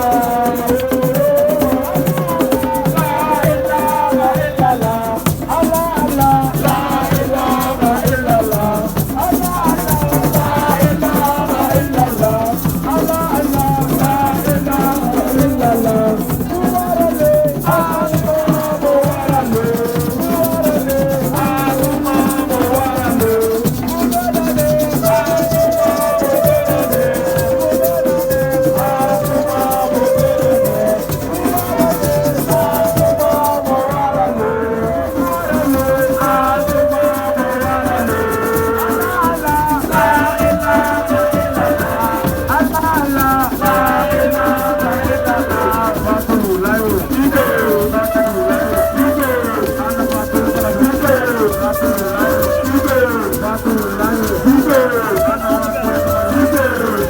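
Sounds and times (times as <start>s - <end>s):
shaken rattles rhythm: 0.0s - 57.0s
wavering melody: 0.0s - 57.0s.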